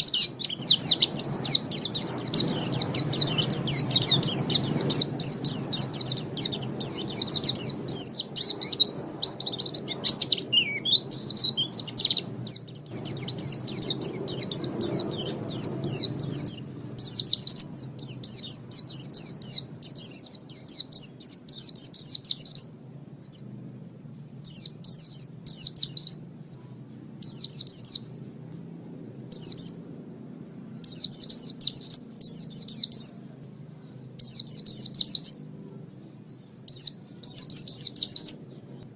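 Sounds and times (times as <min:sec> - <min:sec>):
bird twittering song: 0:00.0 - 0:38.9
low background rumble: 0:00.0 - 0:38.9.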